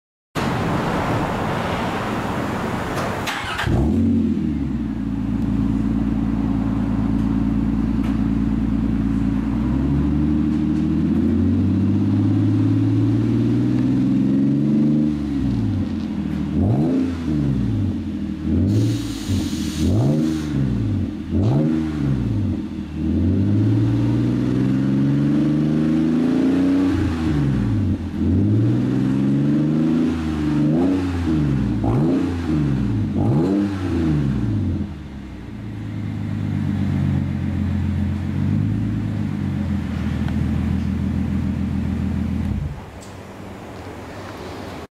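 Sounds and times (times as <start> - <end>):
car engine idling and revving: 0.4 - 44.9.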